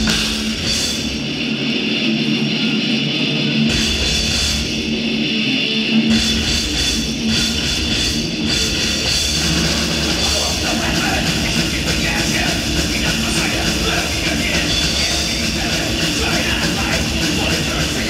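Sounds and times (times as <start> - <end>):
distorted electric guitar: 0.0 - 18.0
heavy metal band playing live: 0.0 - 18.0.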